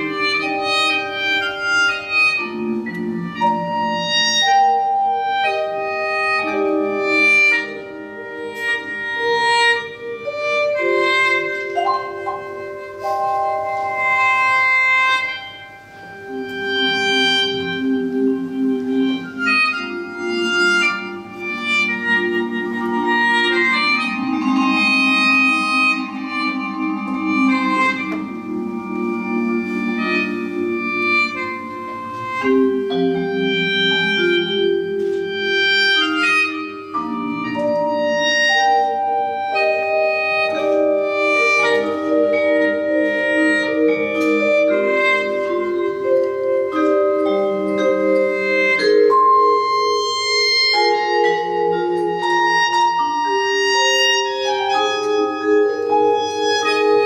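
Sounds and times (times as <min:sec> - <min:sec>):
slow reed and wind instrument music: 0:00.0 - 0:57.0.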